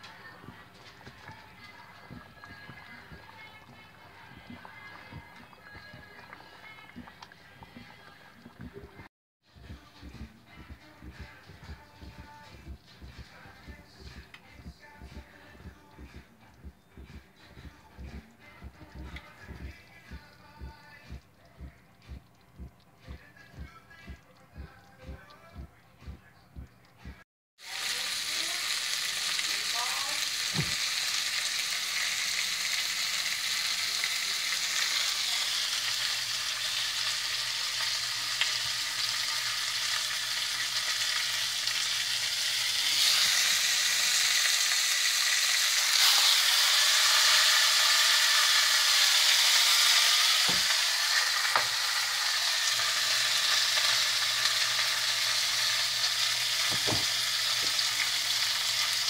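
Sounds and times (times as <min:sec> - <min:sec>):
meatballs sizzling in a skillet: 0:00.0 - 0:22.2, 0:27.6 - 0:59.0.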